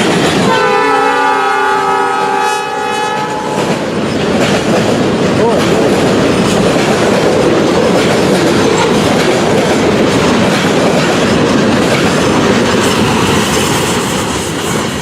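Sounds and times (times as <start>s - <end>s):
clickety-clack of rail joints: 0.0s - 1.0s, 3.3s - 15.0s
train wheels on rails: 0.0s - 15.0s.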